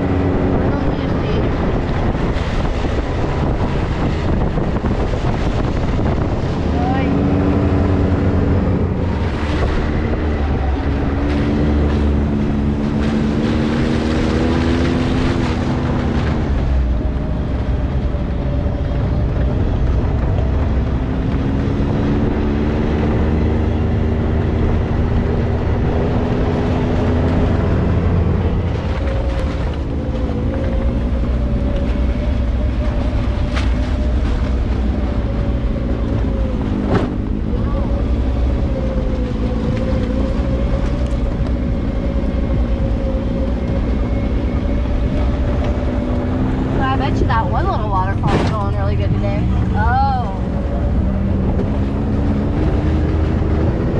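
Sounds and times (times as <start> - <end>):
utility vehicle engine revving: 0.0 - 53.9.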